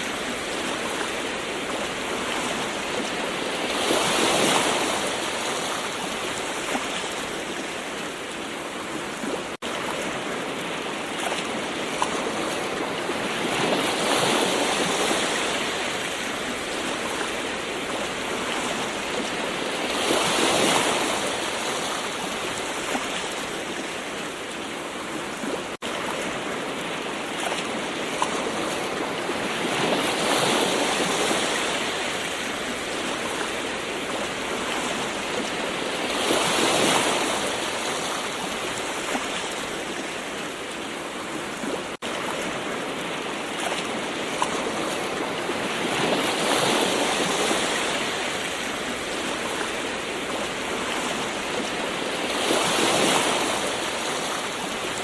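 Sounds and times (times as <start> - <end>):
gentle ocean waves washing in: 0.0 - 55.0.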